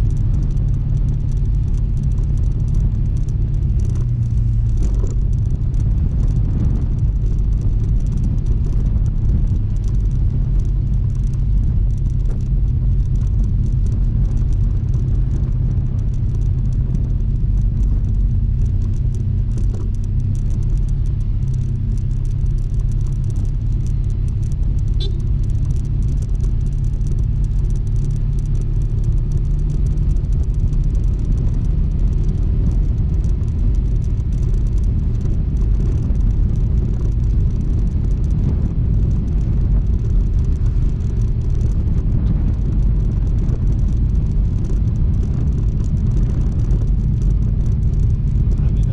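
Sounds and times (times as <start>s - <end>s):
wind and road noise: 0.0s - 48.9s.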